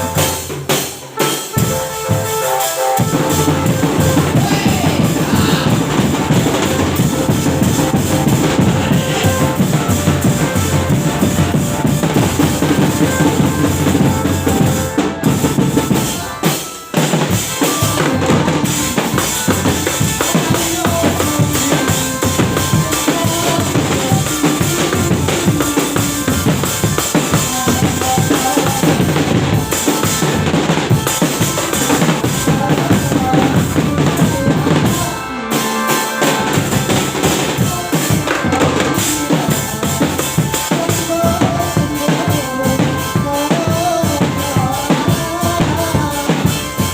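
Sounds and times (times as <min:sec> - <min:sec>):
music with drum-kit beat: 0:00.0 - 0:46.9.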